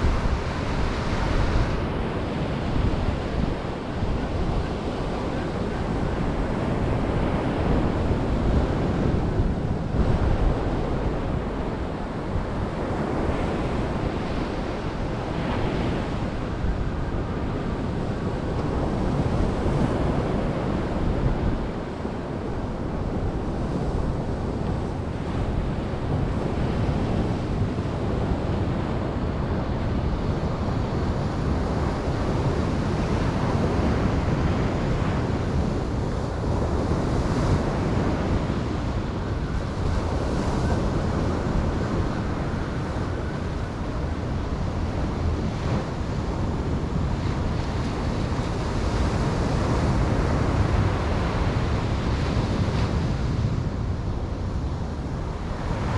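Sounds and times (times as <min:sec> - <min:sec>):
ocean waves on beach: 0:00.0 - 0:55.9
wind rumble on microphone: 0:00.0 - 0:55.9.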